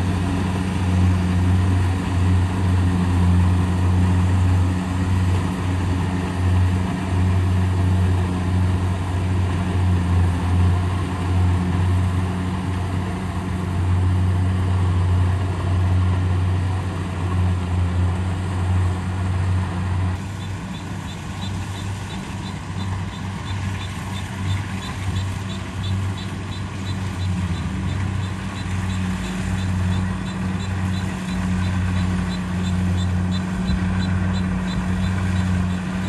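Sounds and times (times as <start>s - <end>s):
combine harvester engine drone: 0.0s - 36.0s.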